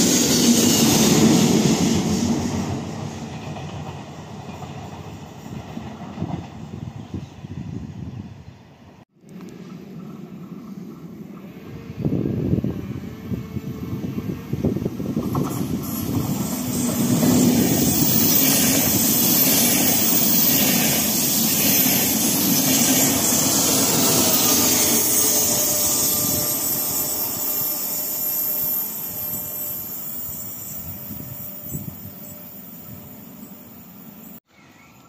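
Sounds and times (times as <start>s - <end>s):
train passing at speed: 0.0s - 34.5s.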